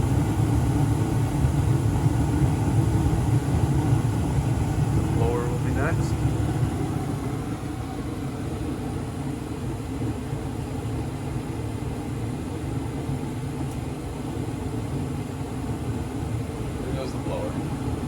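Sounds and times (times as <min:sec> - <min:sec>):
furnace running low rumble: 0:00.0 - 0:18.0.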